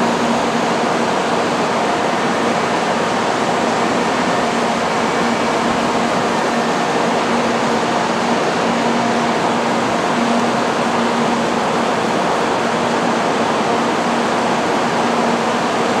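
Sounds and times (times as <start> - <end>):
train wheel and air rush: 0.0 - 16.0.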